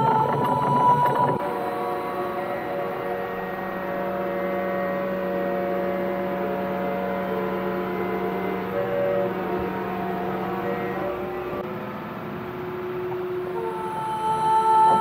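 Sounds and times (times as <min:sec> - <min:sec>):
crane machine hum: 0:00.0 - 0:15.0.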